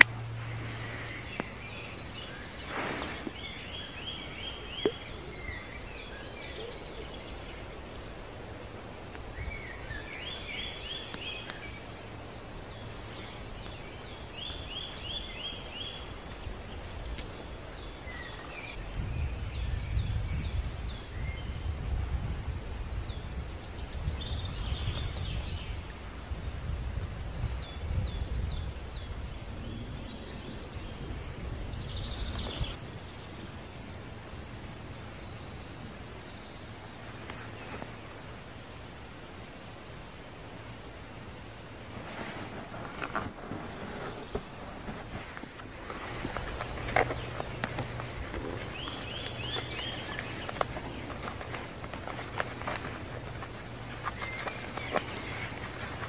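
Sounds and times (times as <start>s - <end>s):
small songbirds singing: 0.0s - 43.3s, 43.9s - 56.0s.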